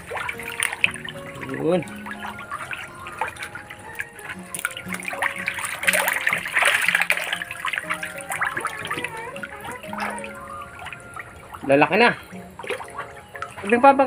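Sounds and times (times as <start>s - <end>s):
fish splashing in water: 0.0s - 14.0s.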